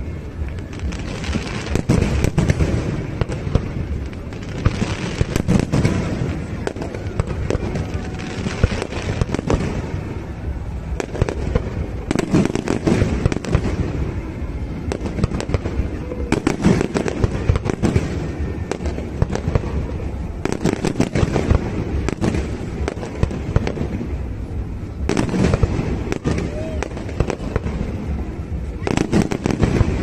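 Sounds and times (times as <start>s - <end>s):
firework bangs and crackling: 0.0s - 30.0s.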